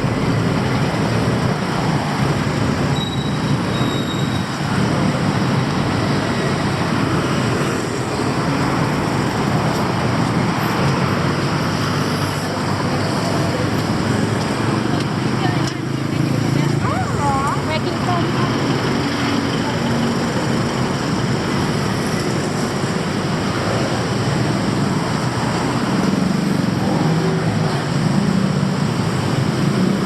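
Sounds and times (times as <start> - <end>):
rumble of passing vehicles: 0.0 - 30.0.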